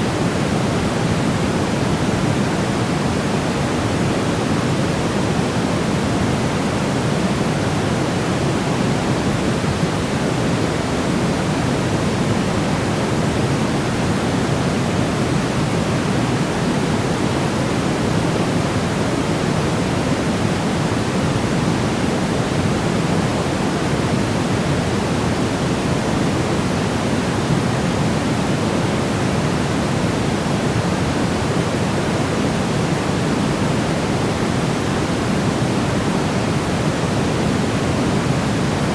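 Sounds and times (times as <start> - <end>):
steady white noise: 0.0 - 38.9.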